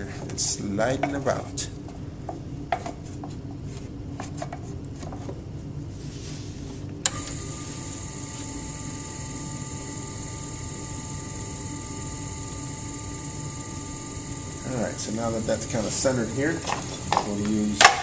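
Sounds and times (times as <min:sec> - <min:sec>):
high steady whine and hiss: 0:00.0 - 0:18.0
pottery wheel humming: 0:00.0 - 0:18.0.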